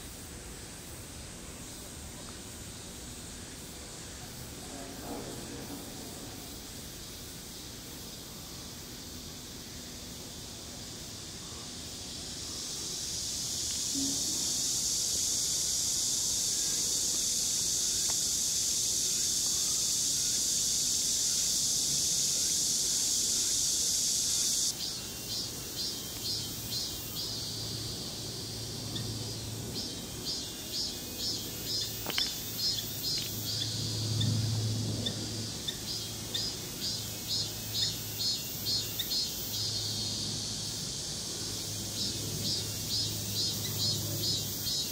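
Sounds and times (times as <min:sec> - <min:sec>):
high-pitched insect drone: 0:00.0 - 0:44.9.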